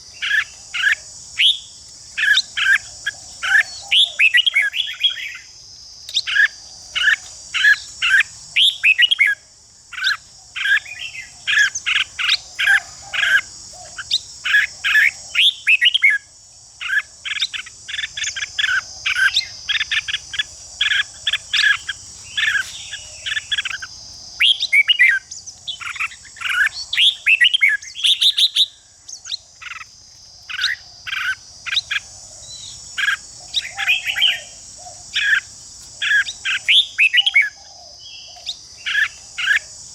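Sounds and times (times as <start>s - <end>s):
birds singing whistled notes: 0.0s - 9.4s, 10.0s - 29.9s, 30.5s - 39.7s.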